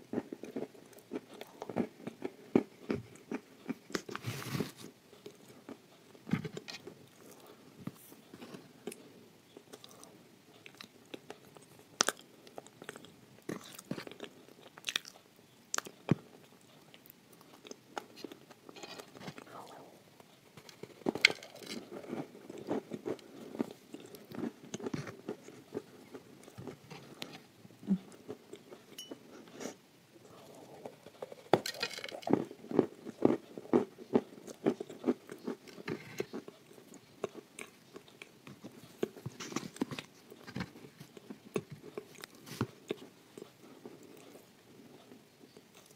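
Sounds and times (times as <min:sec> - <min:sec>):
crunching and chewing: 0:00.1 - 0:45.9.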